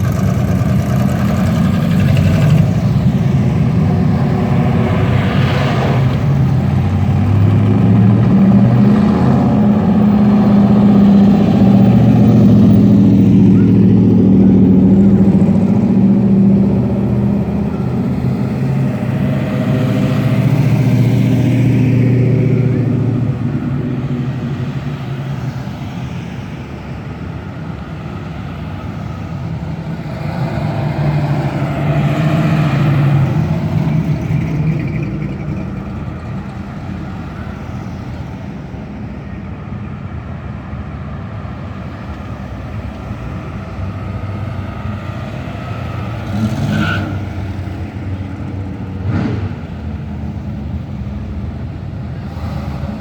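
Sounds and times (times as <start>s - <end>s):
cars driving past: 0.0s - 53.0s.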